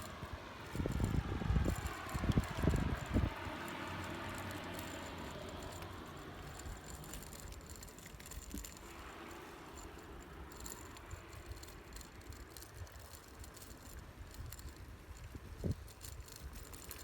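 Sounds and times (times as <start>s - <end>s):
faint rattling: 0.0s - 17.0s
low steady rumble: 0.0s - 17.0s
small clicks: 0.0s - 17.0s.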